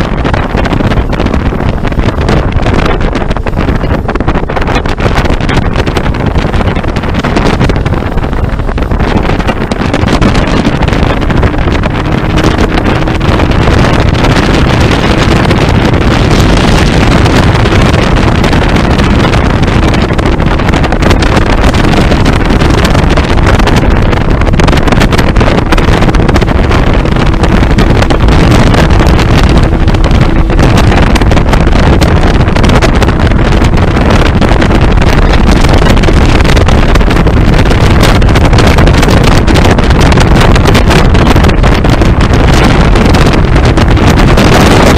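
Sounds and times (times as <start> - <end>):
motorboat engine: 0.0 - 44.9
wind buffeting microphone: 0.0 - 44.9.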